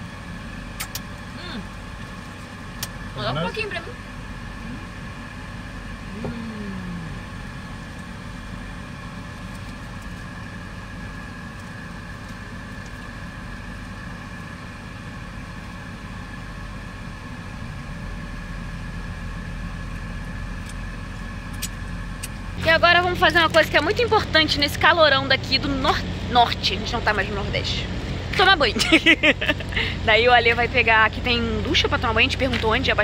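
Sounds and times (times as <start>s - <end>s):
machine hum with high whine: 0.0s - 33.0s.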